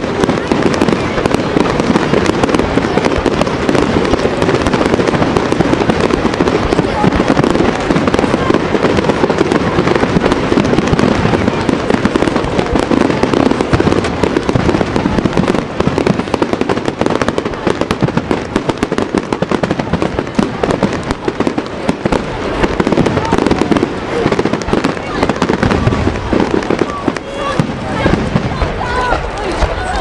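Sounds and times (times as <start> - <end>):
fireworks crackling and popping: 0.0 - 30.0.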